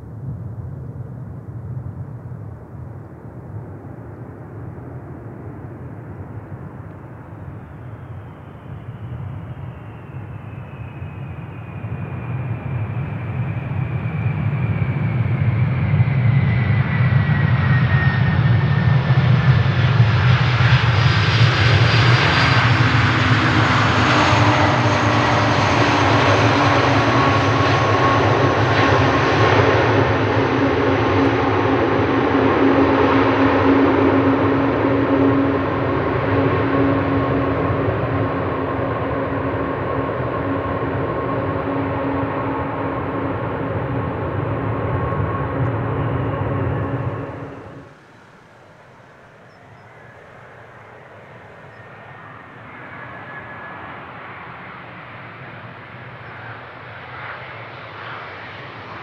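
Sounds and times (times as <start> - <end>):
jet airliner engines: 0.0 - 59.0.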